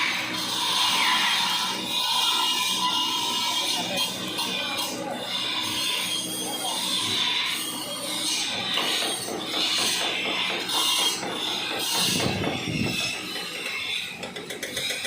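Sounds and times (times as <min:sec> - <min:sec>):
hand tool rasping on steel: 0:00.0 - 0:15.0.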